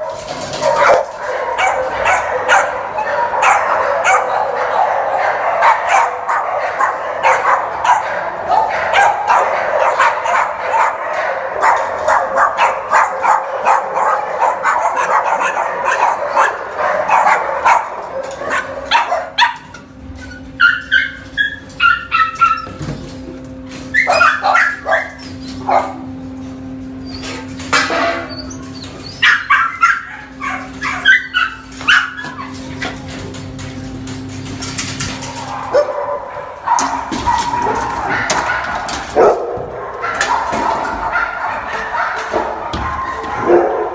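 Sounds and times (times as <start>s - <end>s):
many dogs barking: 0.0s - 22.9s, 23.5s - 43.9s
dogs yipping and whining: 0.0s - 26.1s, 26.8s - 33.6s, 34.6s - 43.9s.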